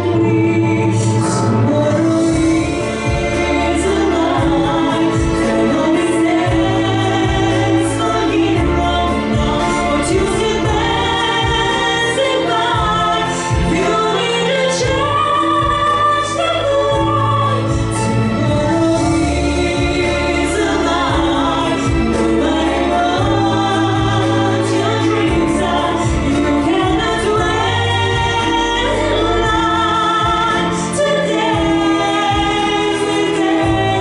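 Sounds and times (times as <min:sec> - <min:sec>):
instrumental backing track: 0:00.0 - 0:34.0
woman singing: 0:00.0 - 0:34.0.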